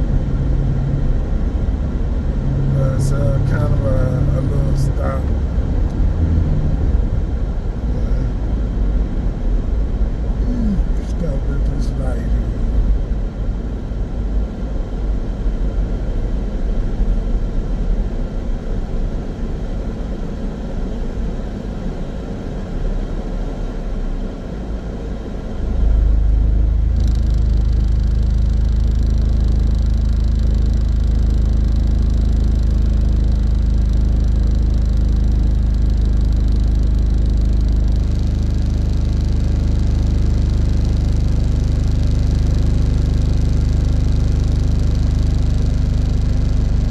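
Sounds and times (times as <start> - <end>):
car engine idling drone: 0.0 - 46.9
road and tyre rumble: 0.0 - 46.9.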